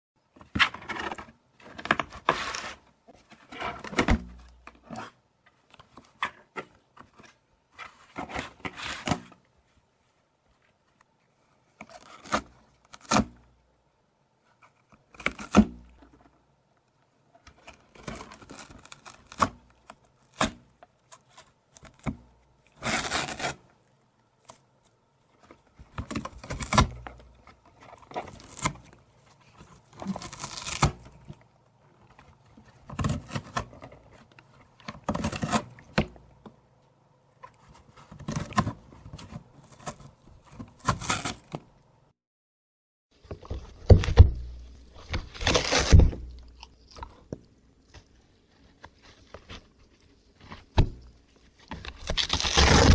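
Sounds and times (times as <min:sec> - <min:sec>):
cat crunching and tearing cardboard: 0:00.3 - 0:09.4, 0:11.3 - 0:13.6, 0:14.4 - 0:16.5, 0:17.2 - 0:41.8, 0:43.2 - 0:52.9.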